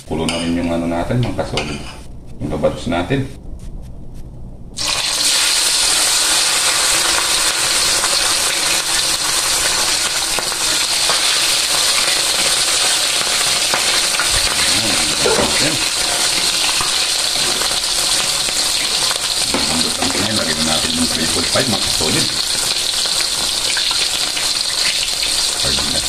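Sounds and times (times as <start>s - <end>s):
chicken sizzling in hot oil: 4.8s - 26.0s.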